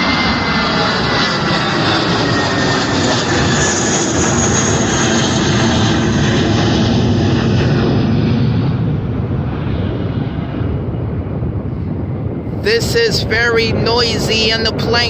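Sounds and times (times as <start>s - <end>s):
jet engines deep rumble: 0.0s - 15.0s
jet engines high whine: 0.0s - 15.0s.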